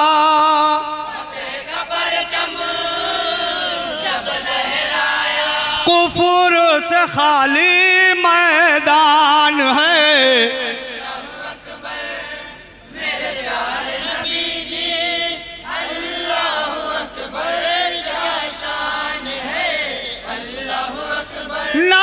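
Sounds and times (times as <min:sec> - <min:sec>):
men chanting together: 0:00.0 - 0:22.0.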